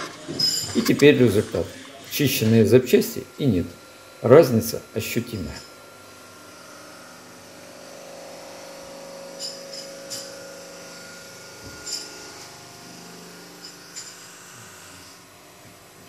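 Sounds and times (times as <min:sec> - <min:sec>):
electric motor humming: 0:00.0 - 0:16.0.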